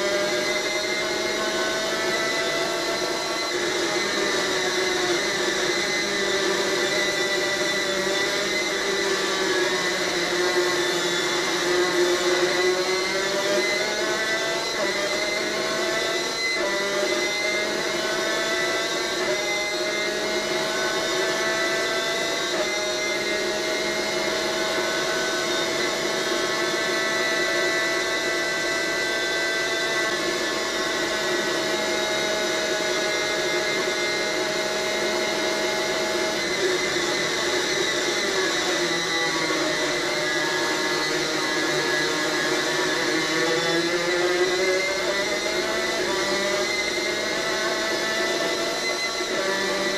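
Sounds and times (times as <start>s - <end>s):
racing engine at high revs: 0.0s - 49.9s.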